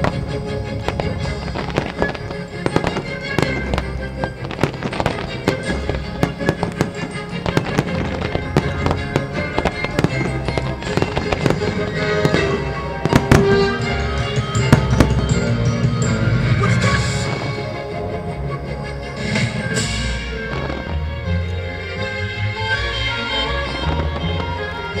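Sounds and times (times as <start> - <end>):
fireworks bangs and crackling: 0.0 - 21.2, 23.2 - 25.0
music playing underneath: 0.0 - 25.0.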